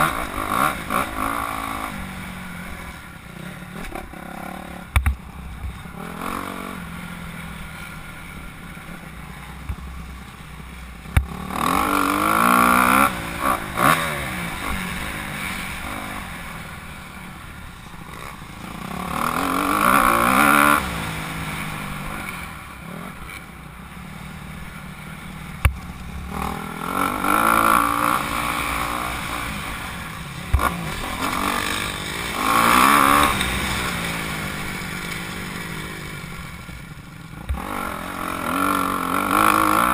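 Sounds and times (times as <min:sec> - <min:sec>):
motocross bike engines revving: 0:00.0 - 0:09.8, 0:10.5 - 0:39.9.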